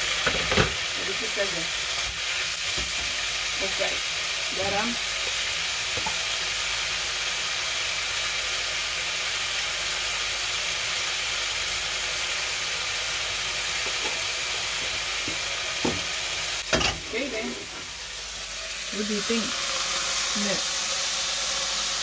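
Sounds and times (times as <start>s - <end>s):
leaves sizzling in a pan: 0.0s - 22.0s.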